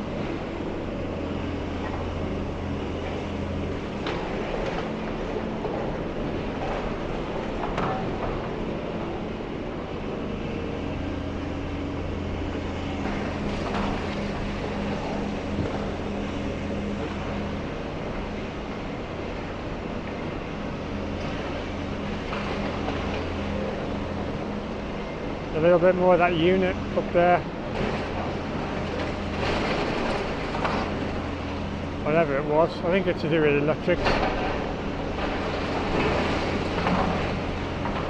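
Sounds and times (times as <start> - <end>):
excavator engine droning: 0.0 - 38.0.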